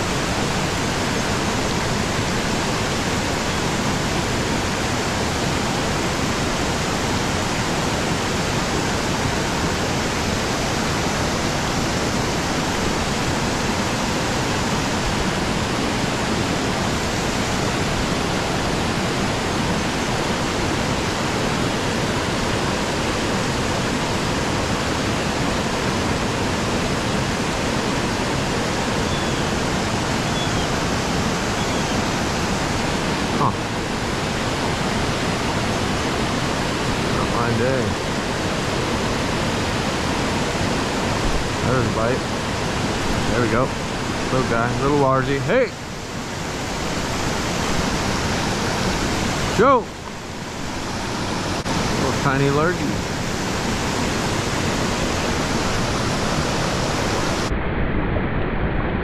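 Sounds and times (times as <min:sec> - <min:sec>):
creek water rushing: 0:00.0 - 0:57.5.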